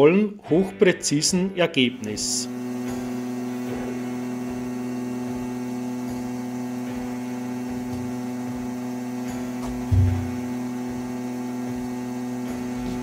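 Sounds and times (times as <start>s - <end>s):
laser cutter humming: 2.2s - 13.0s.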